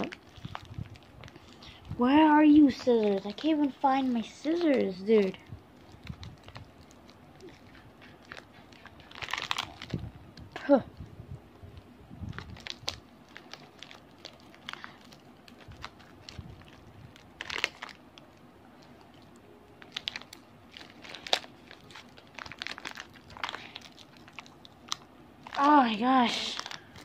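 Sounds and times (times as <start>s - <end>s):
plastic packet crinkling: 0.0s - 10.6s, 11.7s - 27.0s.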